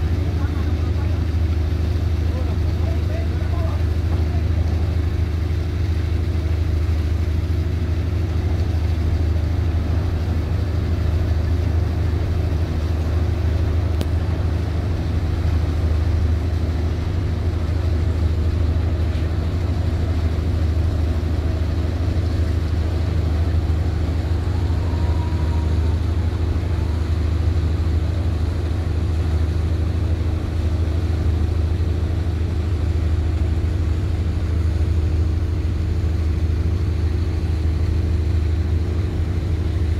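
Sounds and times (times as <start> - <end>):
ferry engines droning: 0.0 - 39.9.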